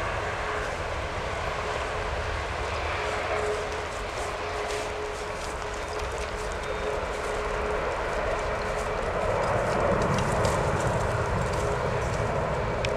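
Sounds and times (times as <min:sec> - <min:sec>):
jet engines at take-off power: 0:00.0 - 0:12.9.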